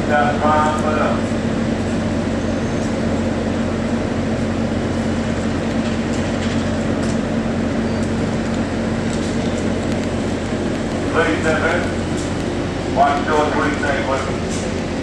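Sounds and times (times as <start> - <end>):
train rumble from inside: 0.0 - 15.0.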